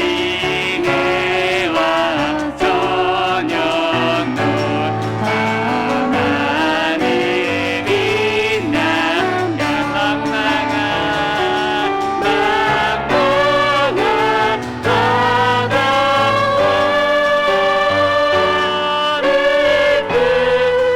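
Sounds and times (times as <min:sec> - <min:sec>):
piano accompaniment: 0:00.0 - 0:20.9
vocalists singing praise song: 0:00.0 - 0:20.9.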